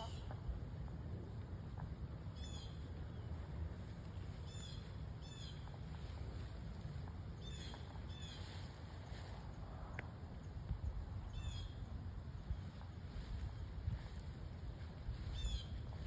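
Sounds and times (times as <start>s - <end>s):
steady low rumble: 0.0s - 16.0s
songbird chirping: 1.8s - 9.7s, 10.4s - 16.0s.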